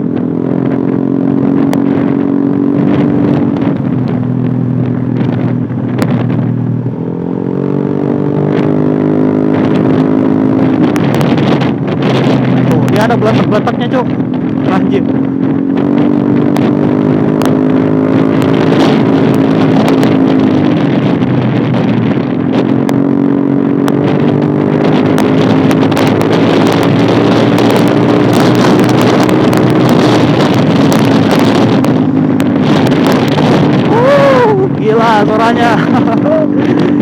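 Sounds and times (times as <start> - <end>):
exhaust popping crackles: 0.0 - 37.0
scooter engine at high revs: 0.0 - 37.0.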